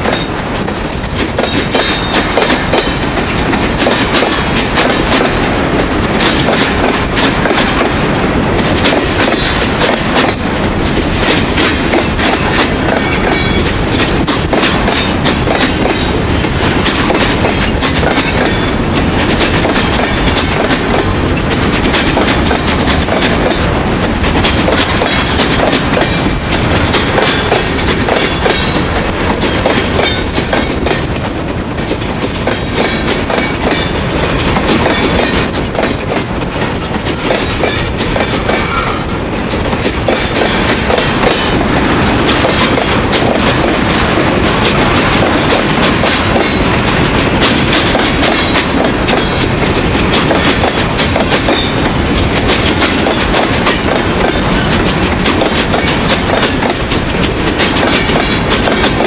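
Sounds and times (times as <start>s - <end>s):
train wheels clattering on track: 0.0s - 59.0s.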